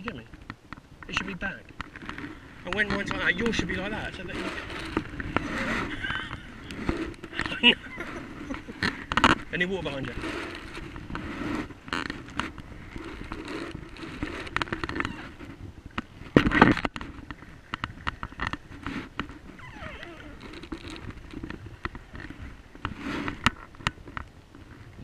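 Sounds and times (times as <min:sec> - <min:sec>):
paddle clicks and knocks: 0:00.0 - 0:25.0
paddle water splashing: 0:00.0 - 0:25.0.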